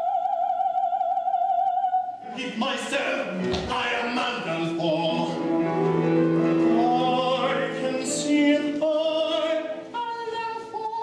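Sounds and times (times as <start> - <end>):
man singing with vibrato: 2.2 - 11.0.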